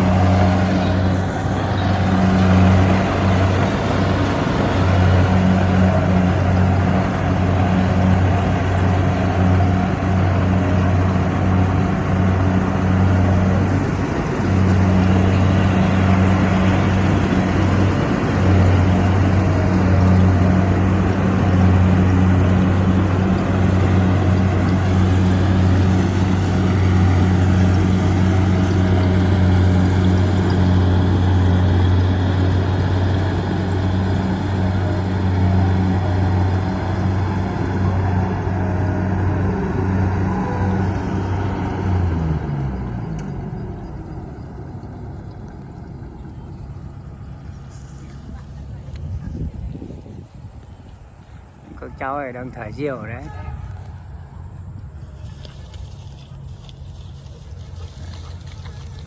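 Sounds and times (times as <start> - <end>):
combine harvester diesel engine: 0.0 - 59.0.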